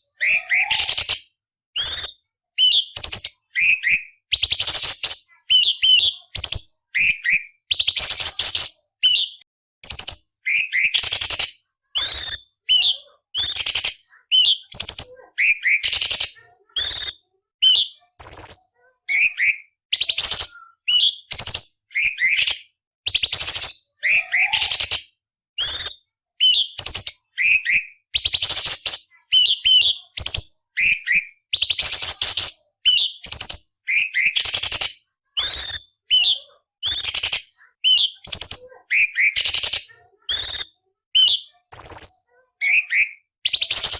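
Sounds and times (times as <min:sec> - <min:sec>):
bird singing chatter and whistles: 0:00.0 - 0:43.9.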